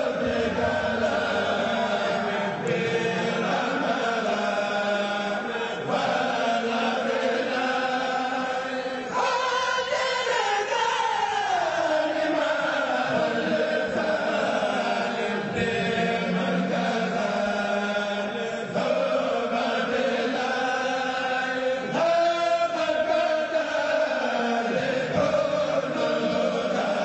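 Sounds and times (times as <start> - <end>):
group of voices chanting: 0.0 - 27.0.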